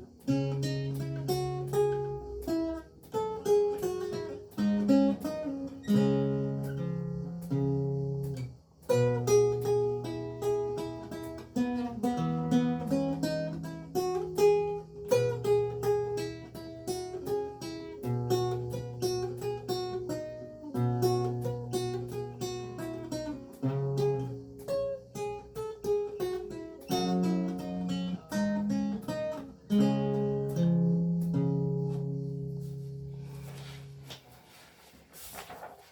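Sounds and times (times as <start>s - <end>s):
solo lute playing: 0.0s - 33.2s.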